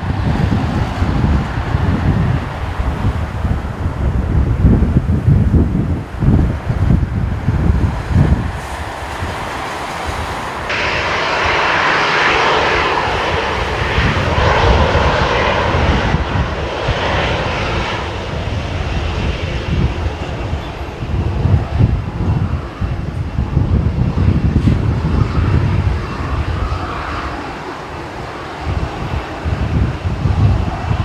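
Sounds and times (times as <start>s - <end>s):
jet airliner passing low: 0.0s - 31.0s
wind buffeting microphone: 0.0s - 31.0s.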